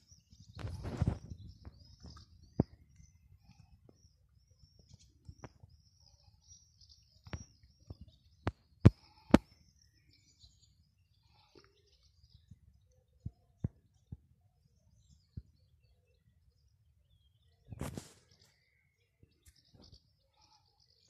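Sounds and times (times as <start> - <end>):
small birds twittering: 0.0 - 21.0.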